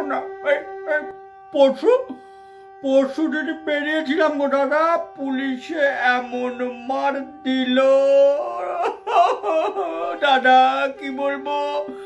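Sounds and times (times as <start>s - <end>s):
man wailing and sobbing: 0.0s - 2.1s, 2.8s - 12.0s
background music with held tones: 0.0s - 12.0s.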